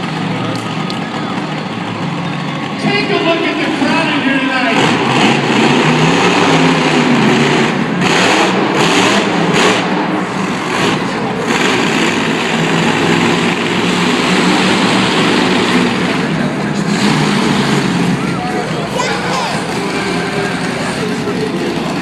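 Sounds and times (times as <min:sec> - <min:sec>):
monster truck engines running: 0:00.0 - 0:22.0.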